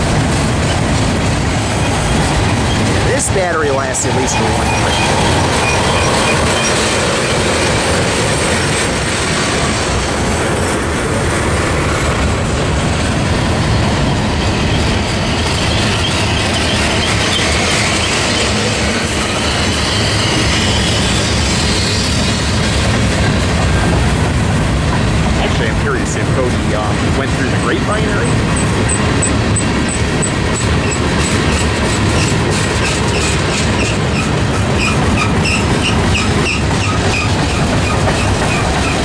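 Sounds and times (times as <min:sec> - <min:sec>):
freight train wheels rumbling: 0:00.0 - 0:39.0
wheels clacking over rail joints: 0:00.0 - 0:39.0.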